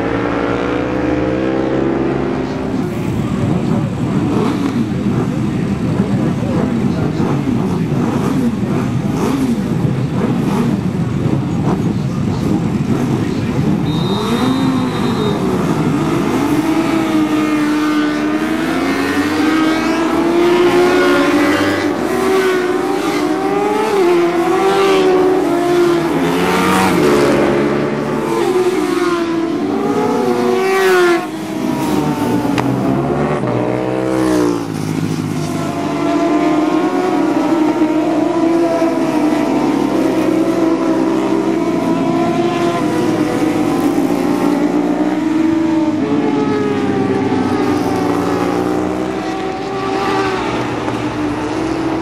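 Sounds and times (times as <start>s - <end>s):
motorcycle engines revving: 0.0s - 52.0s
motorcycles passing by: 0.0s - 52.0s.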